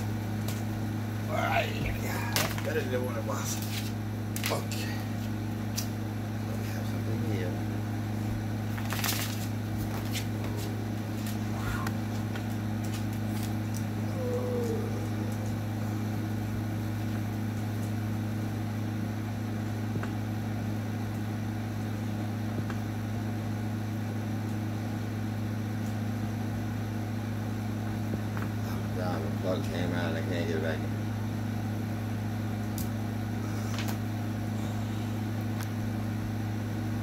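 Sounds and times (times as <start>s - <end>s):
low electric machine hum: 0.0s - 37.0s.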